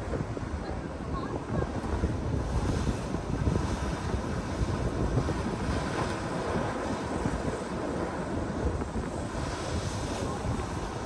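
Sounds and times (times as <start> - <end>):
ocean waves breaking on rock: 0.0 - 11.0
wind buffeting microphone: 0.0 - 11.0.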